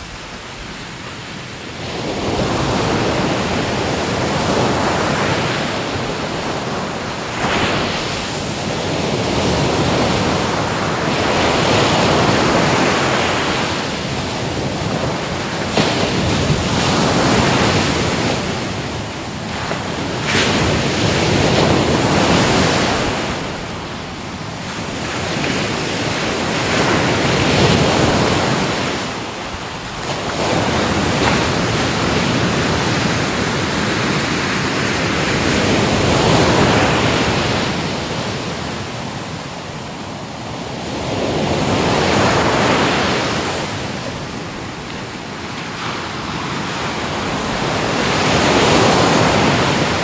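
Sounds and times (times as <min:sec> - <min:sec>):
ocean waves washing on shore: 0:00.0 - 0:50.0.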